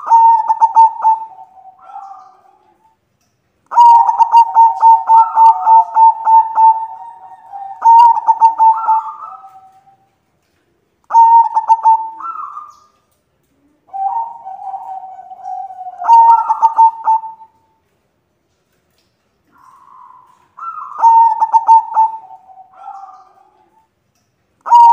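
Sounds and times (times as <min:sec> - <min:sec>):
dove cooing: 0:00.0 - 0:03.0, 0:03.7 - 0:10.1, 0:11.1 - 0:17.8, 0:19.5 - 0:23.9, 0:24.6 - 0:24.9.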